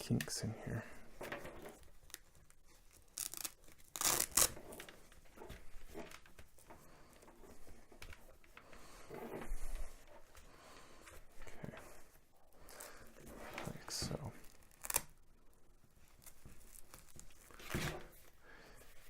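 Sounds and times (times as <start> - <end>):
cords rustling and rubbing: 0.0 - 19.0.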